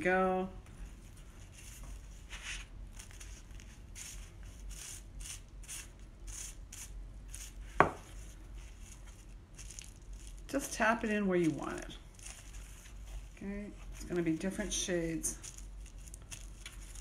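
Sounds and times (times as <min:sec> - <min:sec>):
paintbrush dabbing on bubble wrap: 0:00.8 - 0:17.0.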